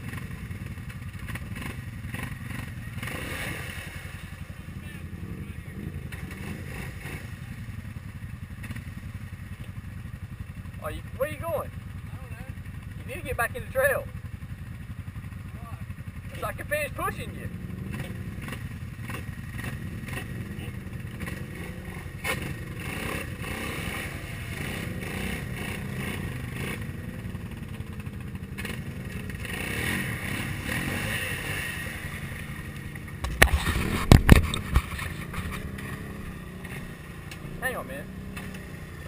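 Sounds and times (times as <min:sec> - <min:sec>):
atv engines running: 0:00.0 - 0:39.0.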